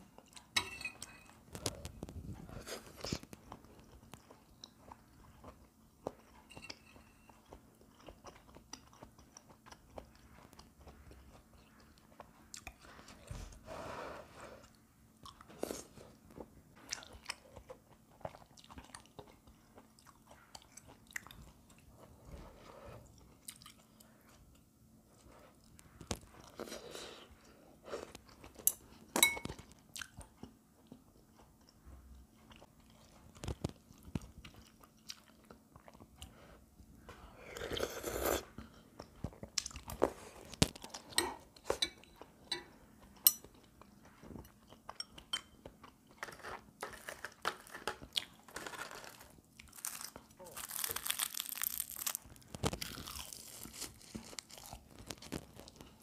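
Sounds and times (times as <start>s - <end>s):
person chewing food: 1.4s - 13.6s, 14.6s - 56.0s.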